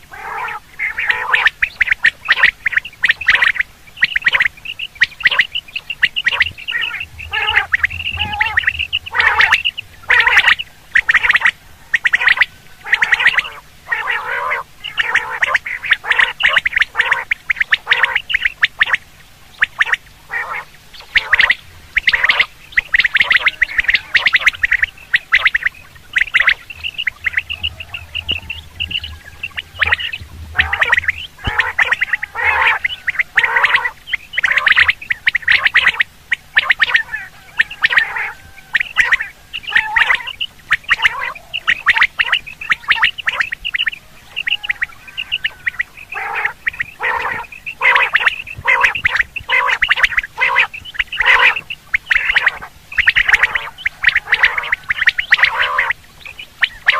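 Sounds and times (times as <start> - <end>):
quail calling: 0.0 - 56.9.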